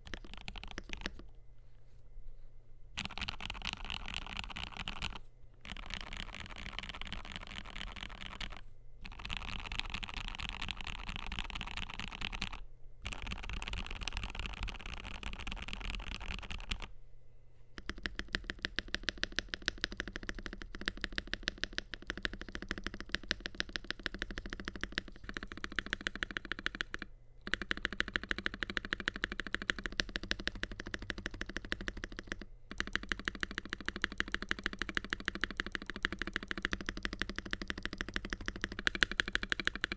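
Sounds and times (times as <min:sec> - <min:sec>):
mechanical keyboard typing: 0:00.0 - 0:01.3, 0:03.0 - 0:16.9, 0:17.8 - 0:39.9.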